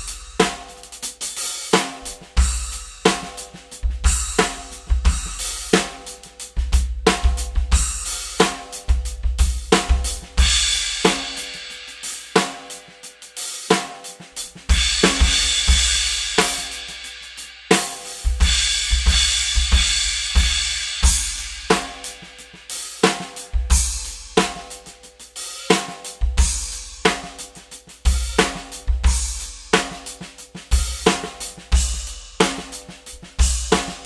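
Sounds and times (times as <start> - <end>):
bright cymbal washes: 0.0 - 6.6, 7.8 - 34.0
drum kit playing a groove: 0.0 - 34.0.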